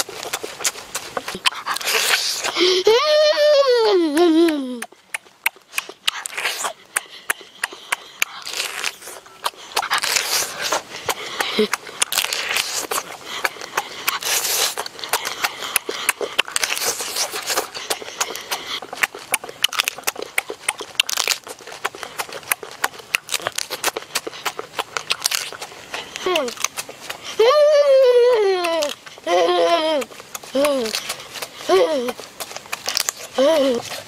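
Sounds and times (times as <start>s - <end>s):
wet chewing and lip-smacking: 0.0s - 34.0s.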